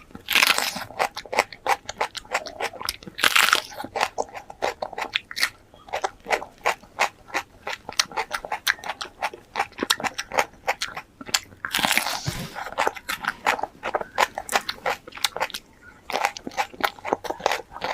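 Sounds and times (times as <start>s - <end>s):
crunching and chewing pepper: 0.0s - 17.9s.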